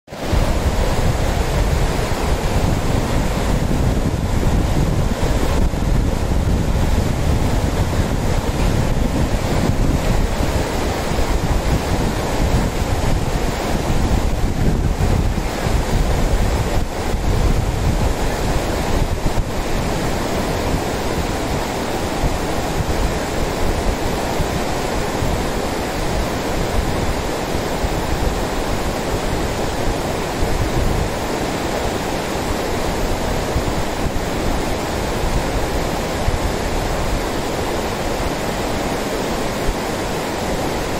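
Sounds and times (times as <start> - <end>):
river rapids roaring: 0.1 - 40.9
wind rumbling on microphone: 0.1 - 40.9.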